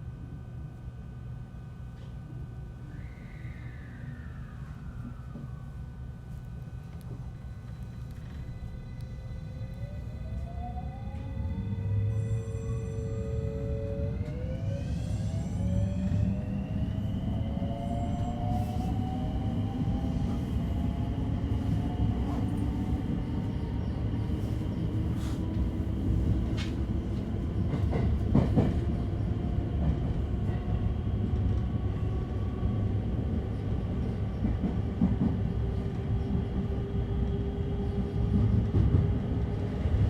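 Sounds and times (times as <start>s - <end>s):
wheels rumbling on rail: 6.8s - 40.0s.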